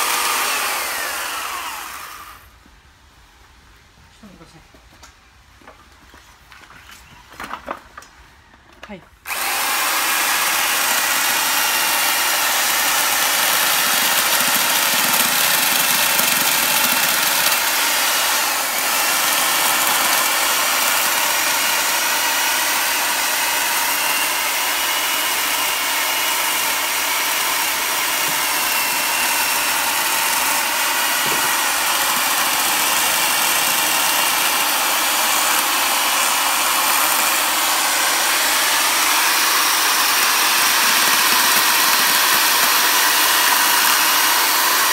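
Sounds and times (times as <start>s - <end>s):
electric chainsaw cutting wood: 0.0s - 2.5s, 9.3s - 44.9s.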